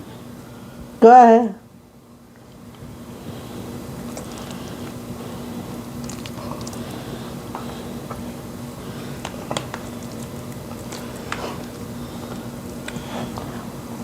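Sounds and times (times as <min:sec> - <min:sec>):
steady low hum: 0:00.0 - 0:14.0
soft squishing of dough: 0:02.2 - 0:14.0.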